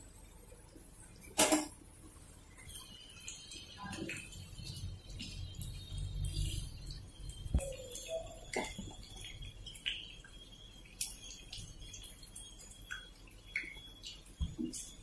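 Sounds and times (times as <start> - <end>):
pakoras crackling in frying oil: 0.0 - 15.0.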